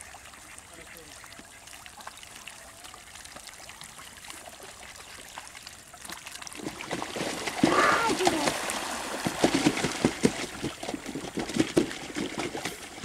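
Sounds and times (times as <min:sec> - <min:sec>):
light splashes: 0:00.1 - 0:13.0.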